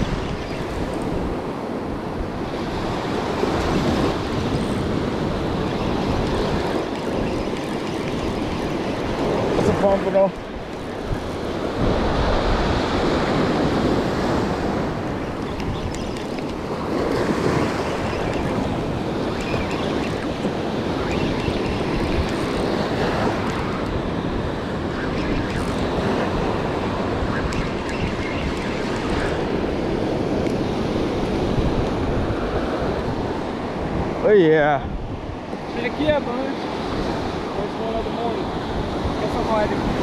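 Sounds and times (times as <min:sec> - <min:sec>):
surf washing onto sand beach: 0:00.0 - 0:40.0
wind buffeting microphone: 0:00.0 - 0:40.0.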